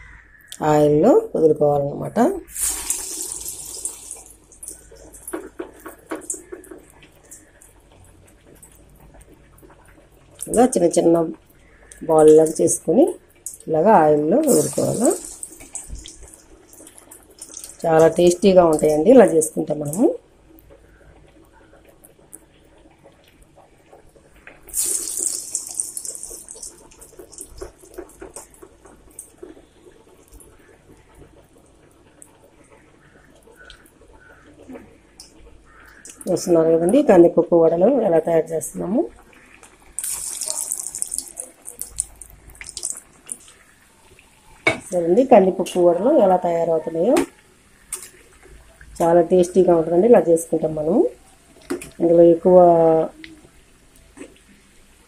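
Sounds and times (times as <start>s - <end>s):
frying in hot oil: 0.0s - 55.0s.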